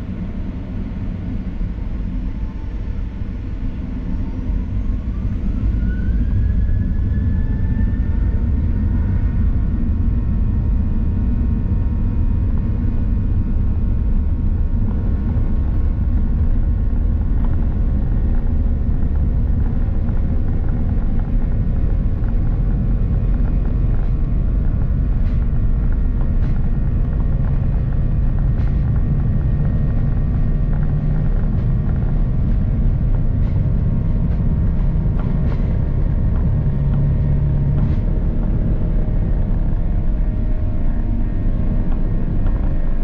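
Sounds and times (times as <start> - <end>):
airplane cabin engine rumble: 0.0 - 43.0
steady engine tones: 0.0 - 43.0.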